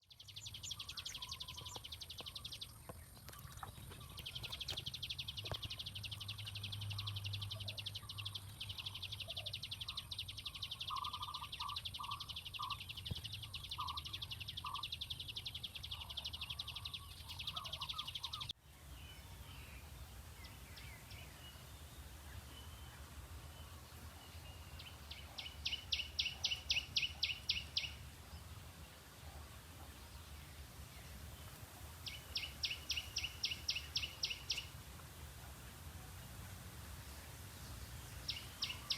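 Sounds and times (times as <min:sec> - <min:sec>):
bird calls: 0:00.0 - 0:18.6, 0:19.2 - 0:28.5, 0:29.2 - 0:34.7, 0:37.6 - 0:38.9.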